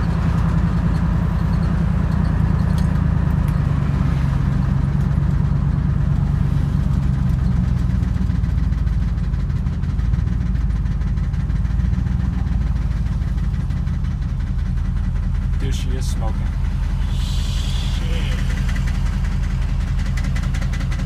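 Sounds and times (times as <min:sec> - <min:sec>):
truck engine drone from inside: 0:00.0 - 0:21.0.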